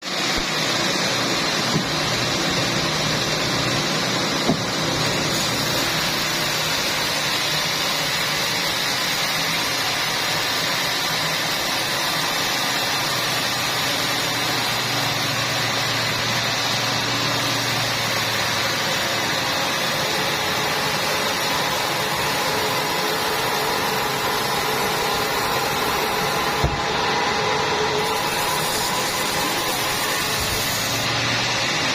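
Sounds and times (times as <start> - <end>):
sawmill machinery running: 0.0 - 31.9.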